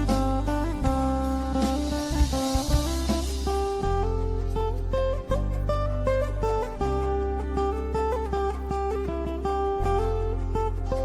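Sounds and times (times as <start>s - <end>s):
held low bass: 0.0s - 11.0s
plucked lute melody: 0.0s - 11.0s.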